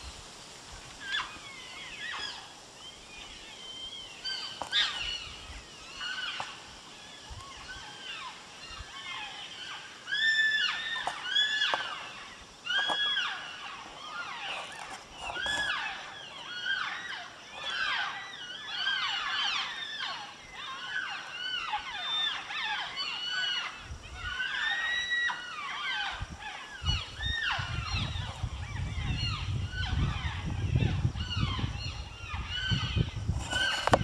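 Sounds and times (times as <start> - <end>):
chorus of animals calling: 1.0 - 34.0.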